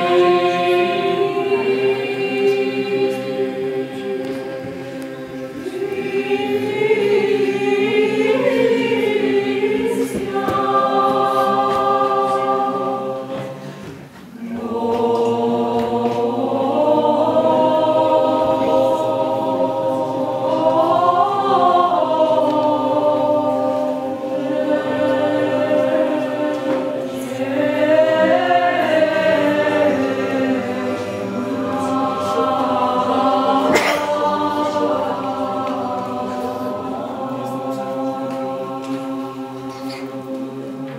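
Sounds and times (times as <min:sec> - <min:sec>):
mixed choir singing chant: 0:00.0 - 0:40.9.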